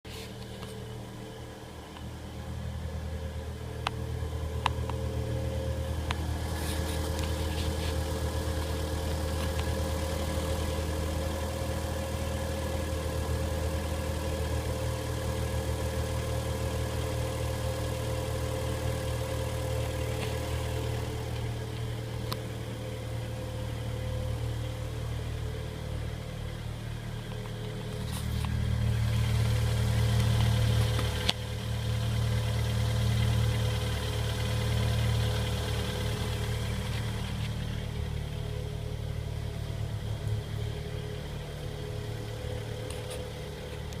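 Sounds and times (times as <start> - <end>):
car engine idling: 0.1 - 44.0.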